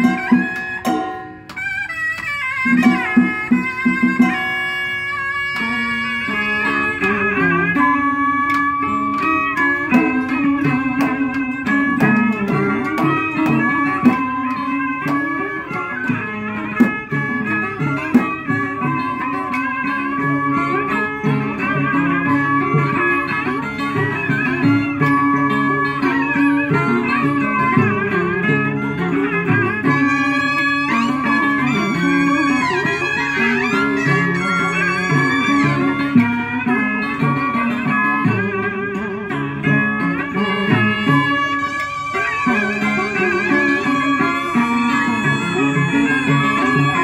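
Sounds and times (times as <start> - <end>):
bamboo flute: 0.0 - 47.0
plucked zither and lutes: 0.0 - 47.0
sharp percussion strokes: 0.0 - 47.0.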